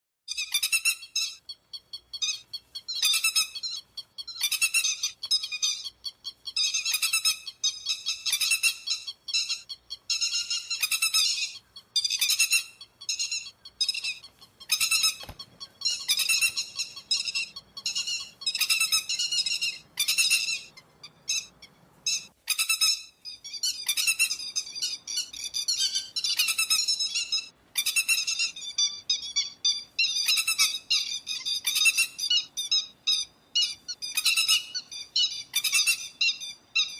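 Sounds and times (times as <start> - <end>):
plover whistled calls: 0.3 - 36.9.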